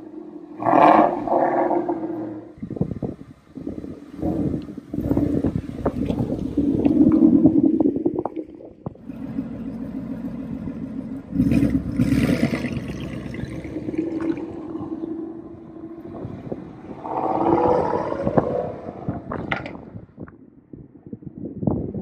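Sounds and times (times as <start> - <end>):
car engine revving through exhaust: 0.0 - 20.0
exhaust crackling: 0.0 - 20.5.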